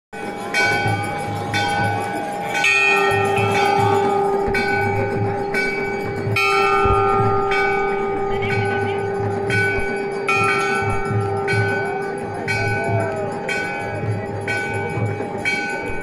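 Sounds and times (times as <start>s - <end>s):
temple bells ringing: 0.2s - 16.0s.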